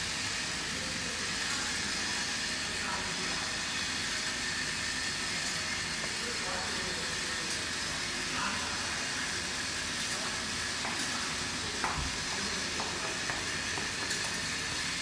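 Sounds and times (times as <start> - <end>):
faint conveyor clicks: 0.0 - 15.0
machine steady hiss: 0.0 - 15.0.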